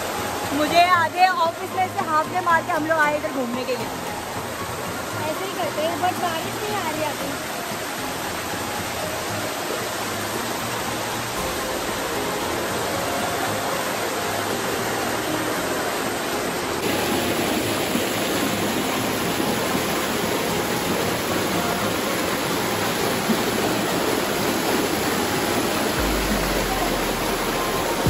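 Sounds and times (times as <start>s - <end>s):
waterfall rushing over rocks: 0.0s - 28.0s.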